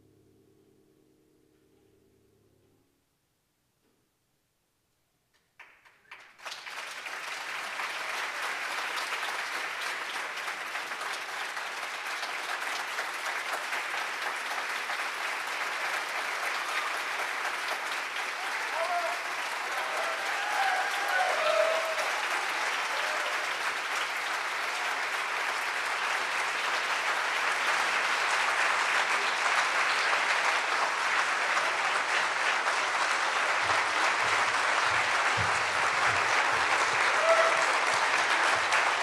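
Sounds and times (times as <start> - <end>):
audience applauding: 5.6 - 39.0.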